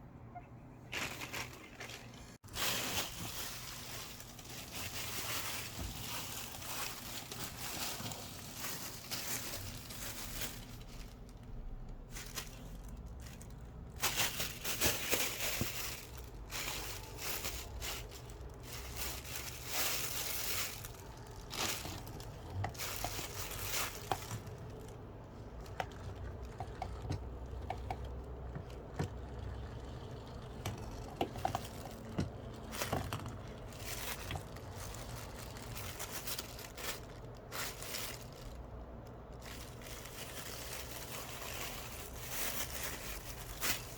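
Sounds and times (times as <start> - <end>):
plastic bag crinkling: 0.9 - 43.9.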